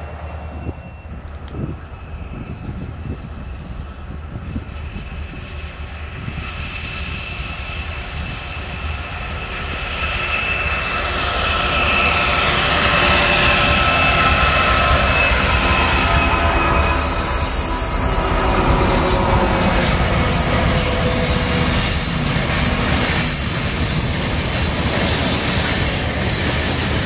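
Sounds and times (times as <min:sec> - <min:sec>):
diesel locomotive rumble: 0:00.0 - 0:27.0
steady high whine: 0:00.0 - 0:27.0.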